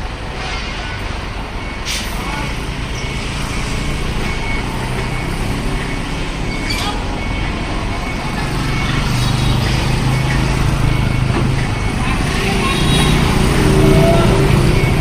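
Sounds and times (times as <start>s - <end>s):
street traffic: 0.0s - 15.0s
high reversing beep: 0.9s - 15.0s
diesel engine humming: 1.0s - 15.0s.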